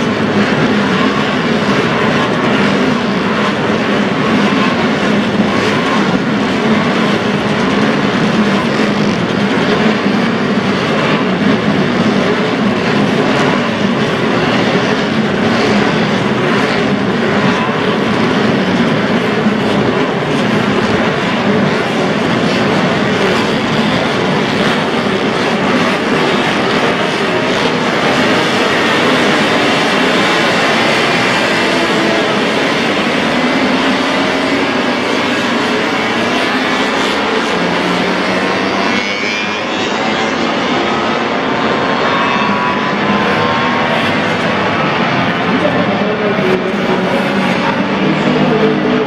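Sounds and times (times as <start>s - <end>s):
motorcycle engines racing: 0.0s - 49.0s.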